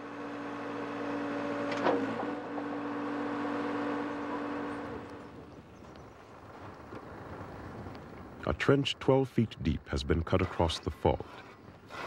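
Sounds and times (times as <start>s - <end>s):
backhoe engine and hydraulics: 0.0s - 12.0s.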